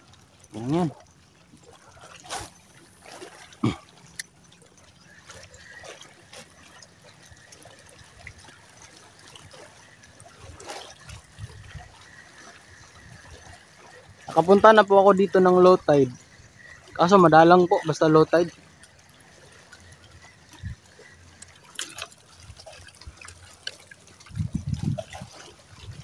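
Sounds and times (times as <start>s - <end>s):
footsteps wading through water: 0.0s - 26.0s
water sloshing and trickling: 0.0s - 26.0s.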